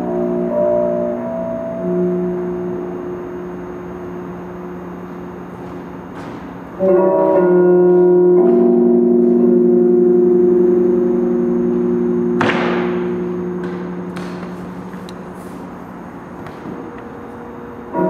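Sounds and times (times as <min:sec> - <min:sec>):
droning tones chord: 0:00.0 - 0:18.0
low tone: 0:00.0 - 0:18.0.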